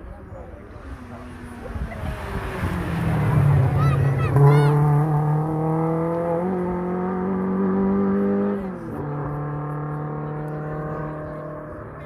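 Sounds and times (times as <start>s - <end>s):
car engine accelerating hard: 0.7s - 12.0s.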